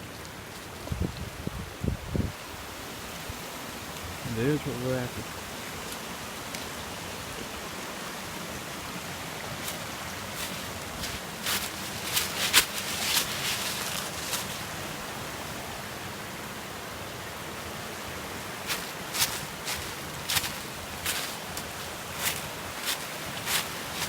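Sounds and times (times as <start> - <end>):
small waterfall rushing: 0.0 - 24.0.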